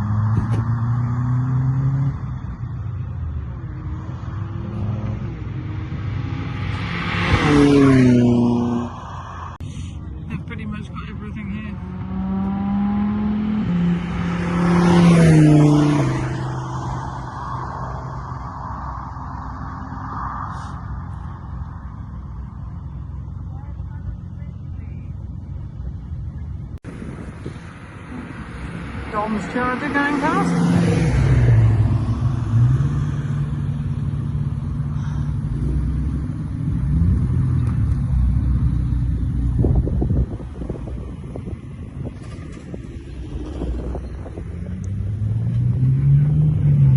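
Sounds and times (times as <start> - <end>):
car engine driving past: 0.0 - 10.2, 11.7 - 23.5, 26.9 - 46.9.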